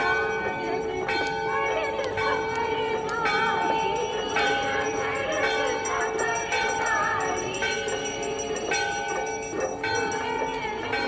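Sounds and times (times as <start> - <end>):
temple bell ringing: 0.0 - 11.0.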